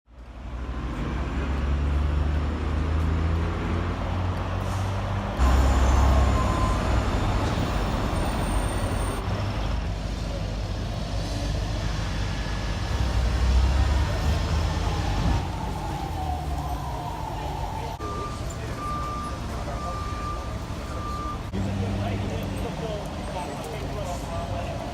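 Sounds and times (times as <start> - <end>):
city street traffic: 0.1 - 24.9
heavy vehicle engine rumble: 0.1 - 24.9.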